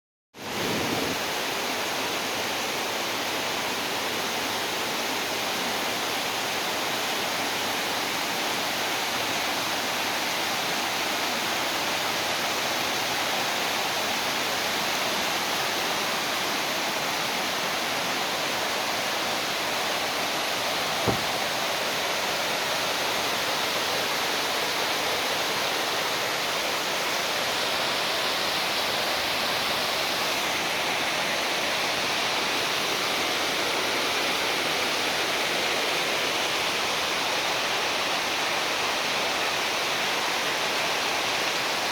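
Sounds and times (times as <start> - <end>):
steady rain: 0.4 - 41.9.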